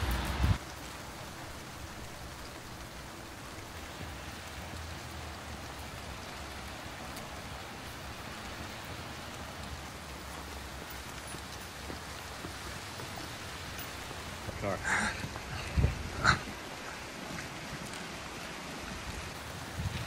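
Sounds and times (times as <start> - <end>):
rain falling on pavement: 0.0 - 20.0.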